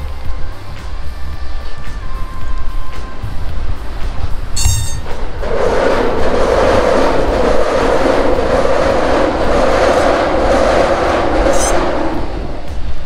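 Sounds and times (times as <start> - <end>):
train passing overhead: 0.0 - 13.0.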